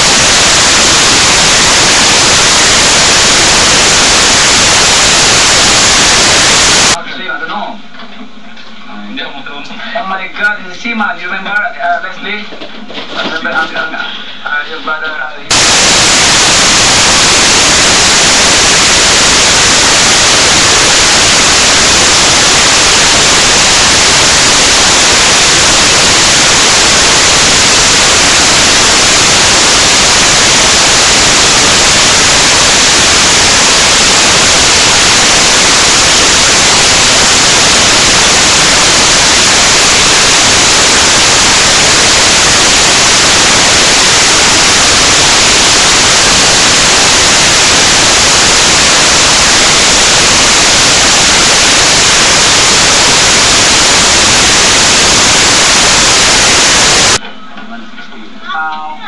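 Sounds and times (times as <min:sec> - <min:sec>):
static hiss: 0:00.0 - 0:07.0, 0:15.4 - 0:57.2.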